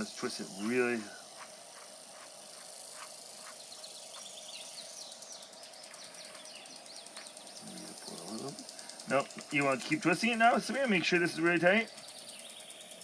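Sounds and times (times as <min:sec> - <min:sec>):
fast insect trill: 0:00.0 - 0:13.0
small birds chirping: 0:00.0 - 0:13.0.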